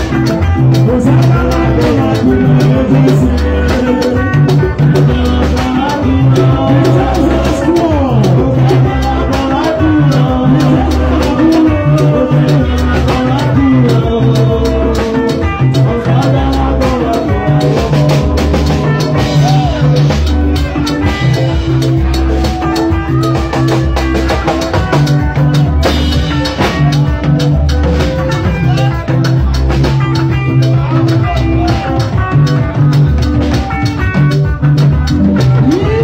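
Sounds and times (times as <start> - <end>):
bass line: 0.0 - 36.0
drum kit beat: 0.0 - 36.0
live dance band playing: 0.0 - 36.0.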